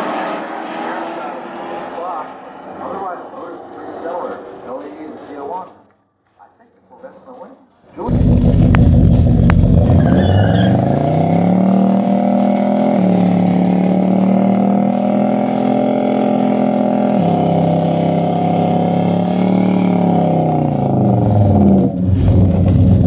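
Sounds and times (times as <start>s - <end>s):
car engine revving: 0.0s - 5.9s, 7.9s - 23.0s.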